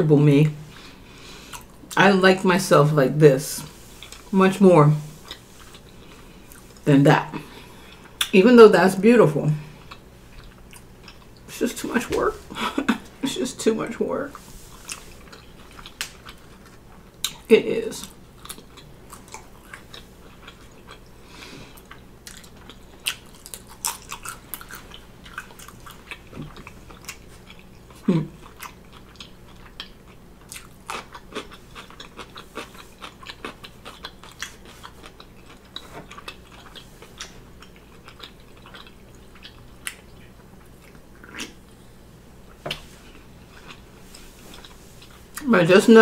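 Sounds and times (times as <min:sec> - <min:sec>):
chewing crunchy food: 0:00.7 - 0:02.0, 0:03.6 - 0:04.4, 0:05.1 - 0:08.4, 0:09.6 - 0:11.5, 0:14.3 - 0:45.5.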